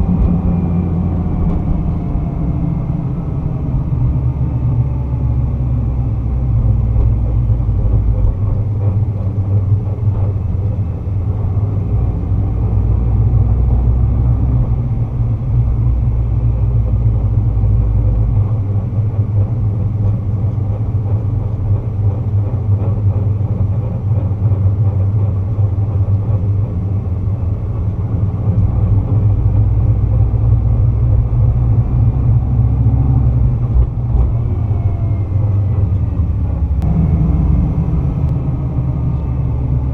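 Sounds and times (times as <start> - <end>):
car engine rumble: 0.0 - 39.9
deep drone: 0.0 - 39.9.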